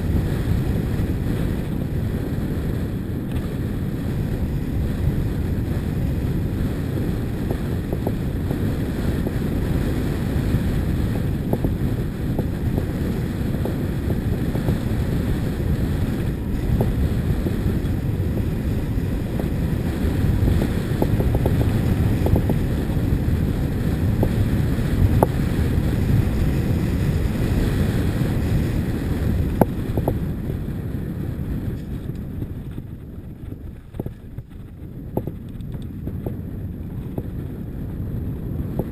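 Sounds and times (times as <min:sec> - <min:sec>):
wind buffeting microphone: 0:00.0 - 0:38.9
gravel clicks and rattles: 0:00.1 - 0:30.7, 0:31.5 - 0:38.9.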